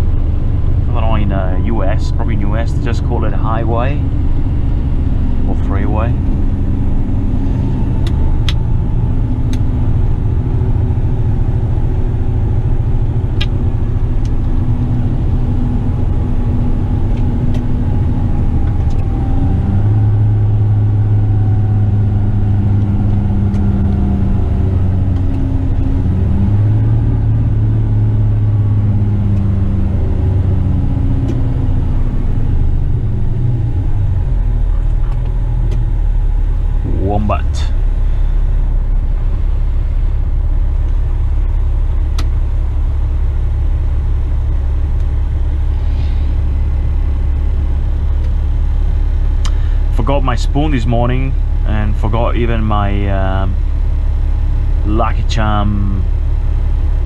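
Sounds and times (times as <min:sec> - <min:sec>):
truck diesel engine drone: 0:00.0 - 0:57.0.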